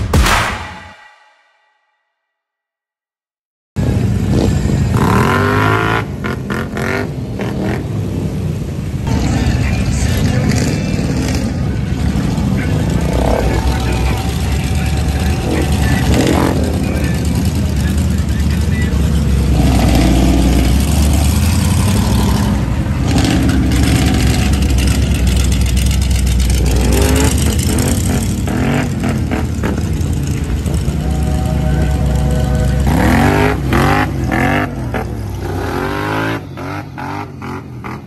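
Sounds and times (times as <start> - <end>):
atv engines revving: 3.8 - 38.0.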